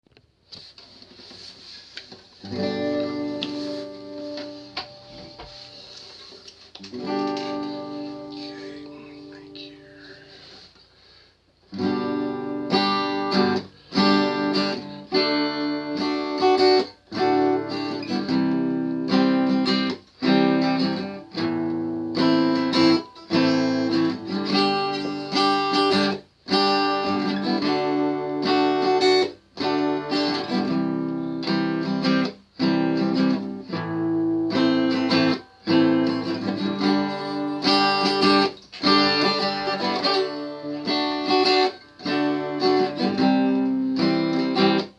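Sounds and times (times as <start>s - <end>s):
guitar playing chords: 2.4s - 6.1s, 6.8s - 10.5s, 11.7s - 44.9s.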